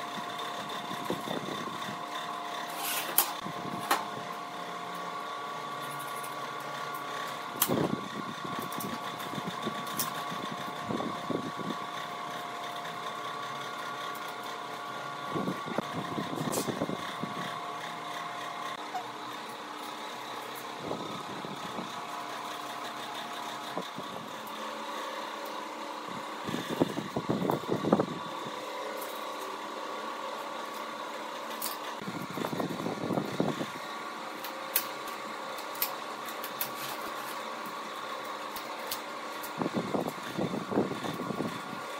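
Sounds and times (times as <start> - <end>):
steady machine hum: 0.0 - 41.9.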